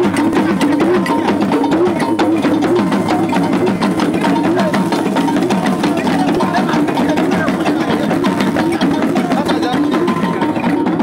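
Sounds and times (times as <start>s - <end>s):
fast drum strokes: 0.0s - 11.0s
talking drums bending pitch: 0.0s - 11.0s.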